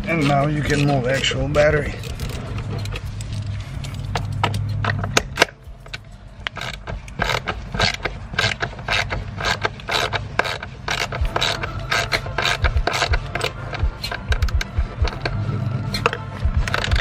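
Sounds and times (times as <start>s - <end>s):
low hum: 0.0s - 17.0s
socket ratchet clicking: 1.9s - 17.0s.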